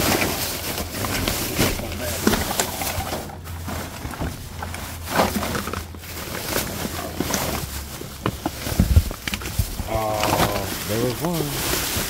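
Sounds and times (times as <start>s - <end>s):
rustling and knocking of trash bags: 0.0s - 12.0s.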